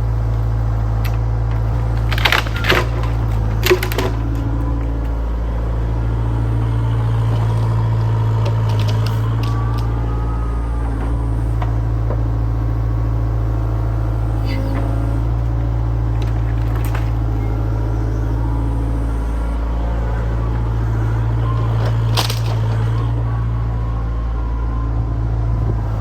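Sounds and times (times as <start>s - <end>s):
heavy machine engine droning: 0.0s - 26.0s.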